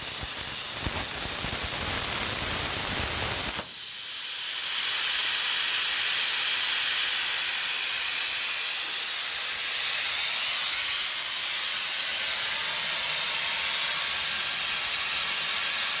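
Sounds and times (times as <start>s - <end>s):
plasma cutter torch hissing: 0.0s - 16.0s.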